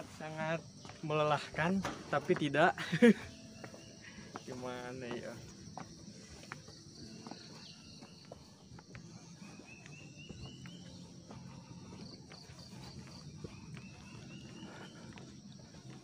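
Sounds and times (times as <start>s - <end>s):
footsteps on stone steps: 0.0s - 16.0s
insect chorus drone: 0.0s - 16.0s.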